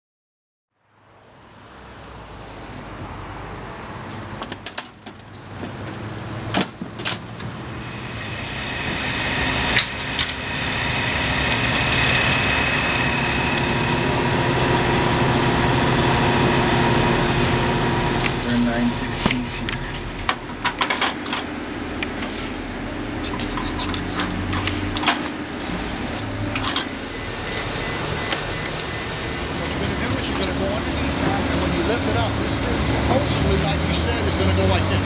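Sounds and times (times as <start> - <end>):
vehicle engine drone: 0.8 - 35.0
steady whine: 2.3 - 35.0.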